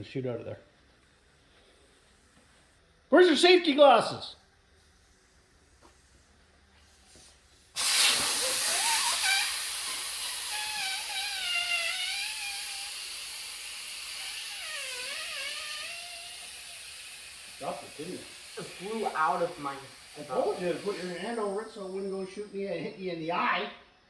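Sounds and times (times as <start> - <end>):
air hissing out of a tire: 1.1 - 3.1, 4.5 - 23.2.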